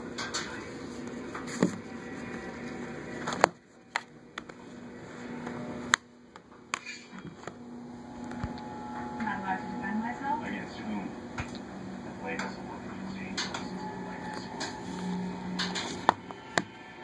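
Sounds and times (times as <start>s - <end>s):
faint steady hum: 0.6s - 17.0s.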